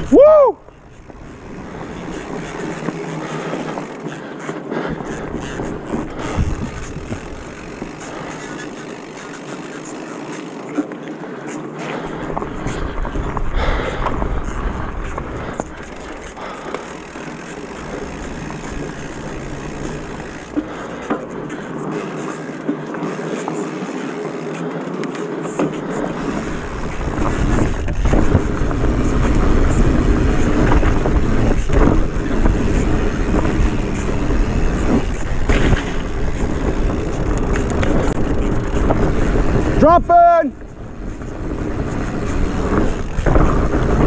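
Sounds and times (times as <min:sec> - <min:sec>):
off-road vehicle engine running: 0:00.0 - 0:44.0.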